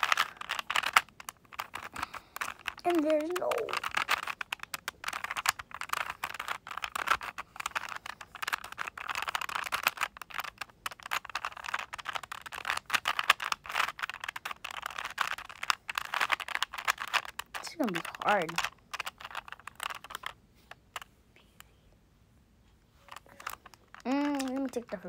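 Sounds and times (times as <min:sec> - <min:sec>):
plastic puzzle cube clicking: 0:00.0 - 0:21.1, 0:23.0 - 0:25.0.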